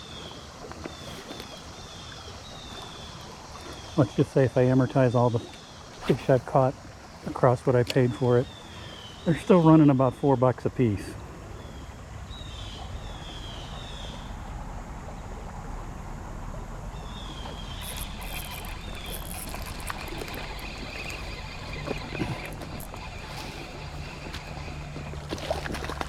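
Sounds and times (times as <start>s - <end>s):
river water: 0.0s - 26.0s.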